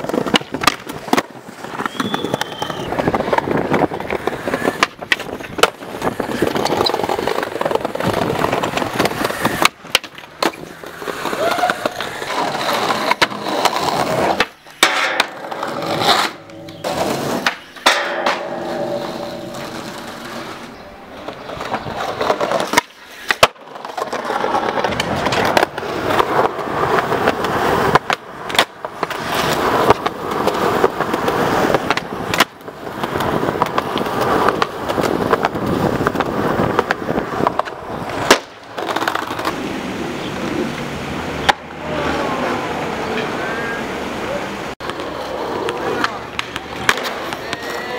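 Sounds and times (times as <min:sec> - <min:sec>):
skateboard tail pops and landings: 0:00.0 - 0:39.6, 0:41.4 - 0:41.7, 0:44.8 - 0:47.8
skateboard wheels rolling on concrete: 0:00.0 - 0:47.9.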